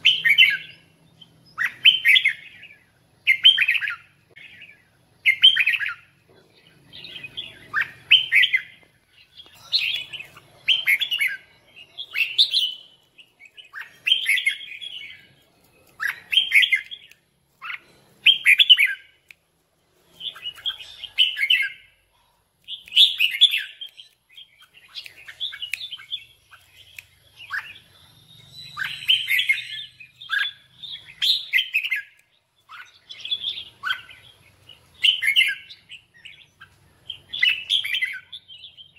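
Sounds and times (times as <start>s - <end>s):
bulbul singing: 0.0s - 19.4s, 20.0s - 38.9s.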